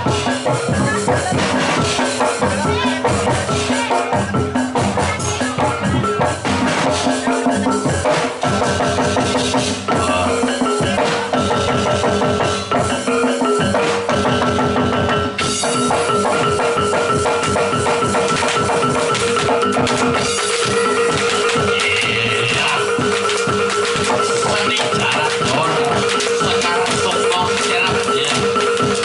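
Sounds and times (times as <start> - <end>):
fast drumming: 0.0 - 29.0
sustained pitched gamelan notes: 0.0 - 29.0.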